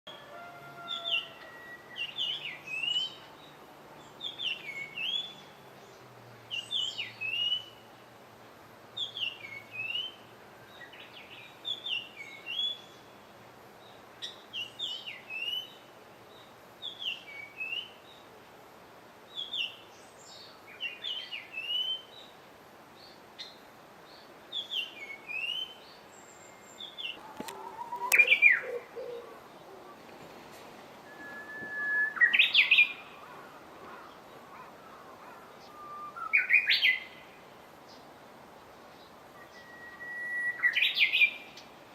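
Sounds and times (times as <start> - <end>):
songbird chirping: 0.1 - 8.1, 8.9 - 41.9.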